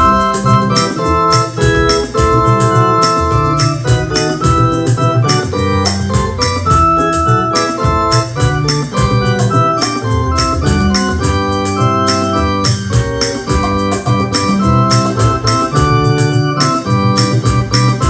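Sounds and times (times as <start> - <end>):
electronic keyboard playing hymn chords: 0.0 - 18.0
quick percussive ticking beat: 0.0 - 18.0.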